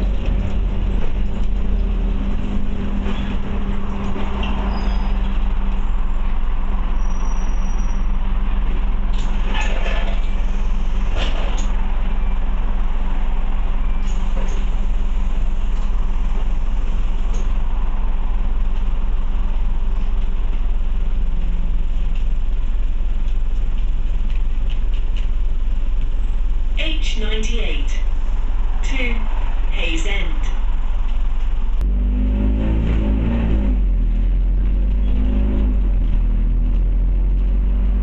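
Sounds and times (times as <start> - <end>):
bus engine drone: 0.0 - 38.0.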